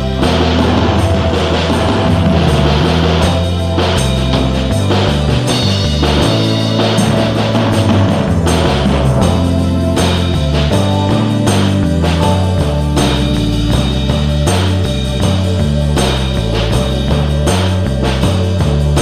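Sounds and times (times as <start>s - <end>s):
bass line: 0.0s - 19.0s
drum kit: 0.0s - 19.0s
rock music: 0.0s - 19.0s.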